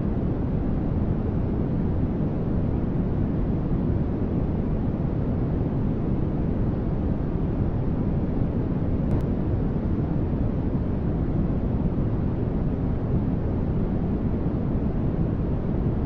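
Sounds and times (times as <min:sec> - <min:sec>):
deep rumbly static hiss: 0:00.0 - 0:16.0.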